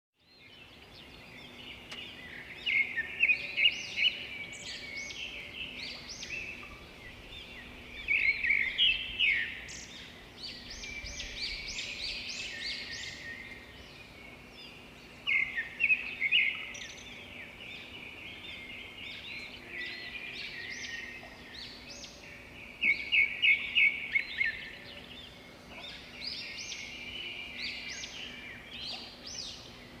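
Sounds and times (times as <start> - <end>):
birds chirping and singing: 0.2 - 30.0.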